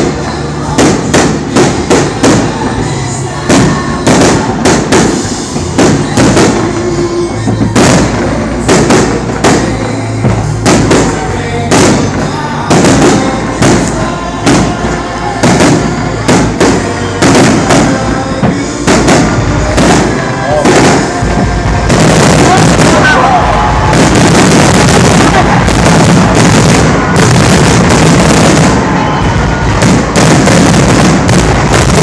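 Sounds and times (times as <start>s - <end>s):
fireworks bursting with loud bangs: 0.0s - 32.0s.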